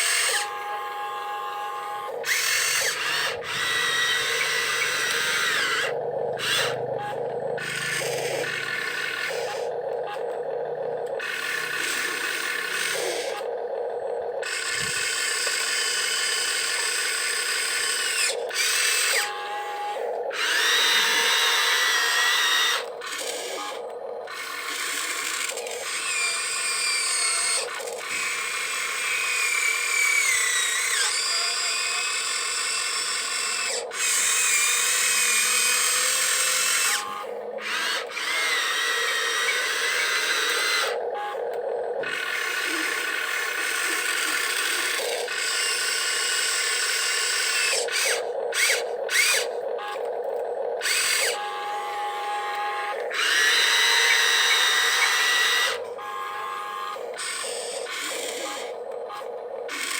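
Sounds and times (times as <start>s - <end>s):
small electric motors whining: 0.0s - 59.9s.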